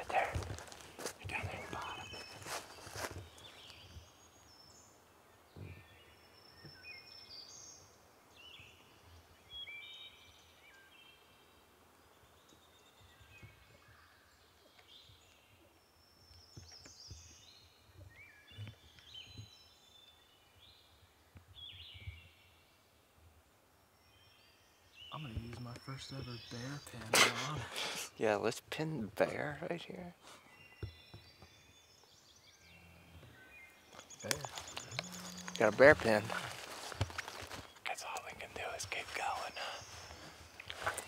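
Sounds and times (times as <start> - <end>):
faint songbirds singing: 0.0 - 41.0.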